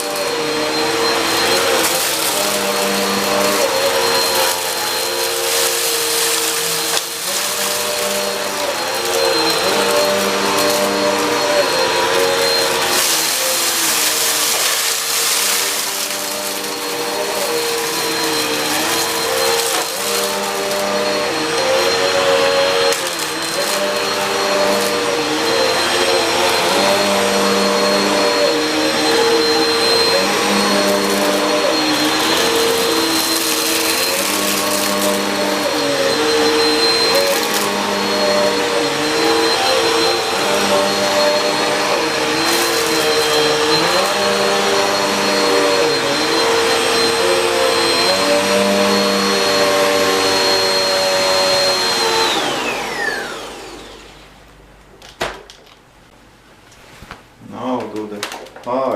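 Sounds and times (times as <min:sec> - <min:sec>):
vacuum cleaner motor whine: 0:00.0 - 0:54.6.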